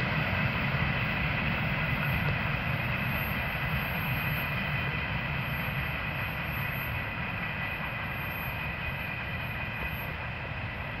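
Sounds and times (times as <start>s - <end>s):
train rumbling over rails: 0.0s - 11.0s.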